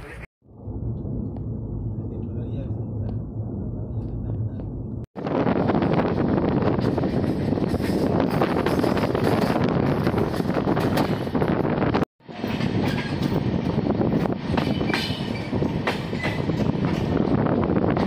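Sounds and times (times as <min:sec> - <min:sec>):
rumble of wheels on rail: 0:00.0 - 0:18.0.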